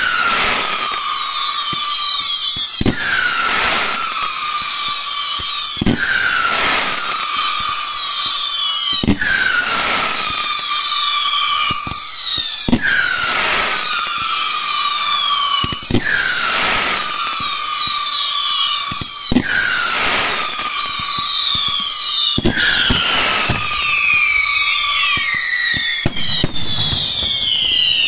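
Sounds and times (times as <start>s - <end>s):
descending firework whistles: 0.0s - 28.0s.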